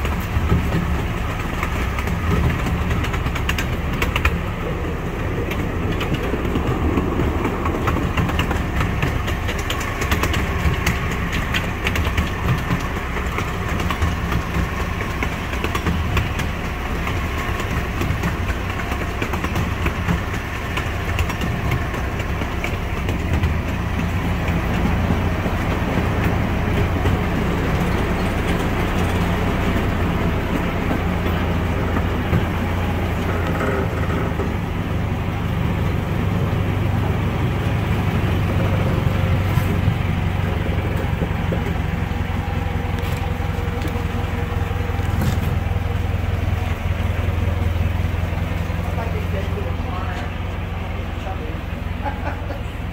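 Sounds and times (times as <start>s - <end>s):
train engine droning: 0.0s - 52.9s
wheels rattling on rails: 0.0s - 52.9s.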